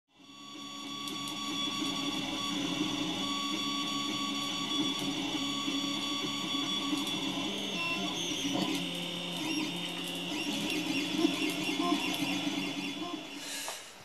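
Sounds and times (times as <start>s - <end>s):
printer whining tones: 0.1s - 13.9s.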